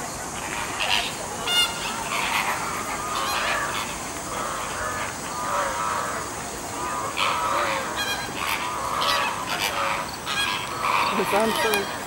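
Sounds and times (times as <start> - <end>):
flamingos honking: 0.0 - 12.0.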